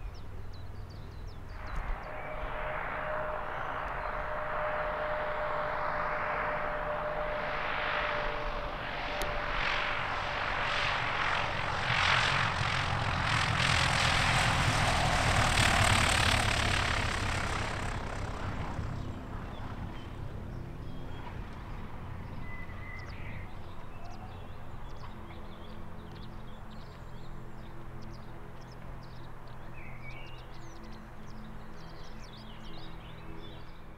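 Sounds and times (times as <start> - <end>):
light aircraft engine and propeller: 0.0 - 33.9.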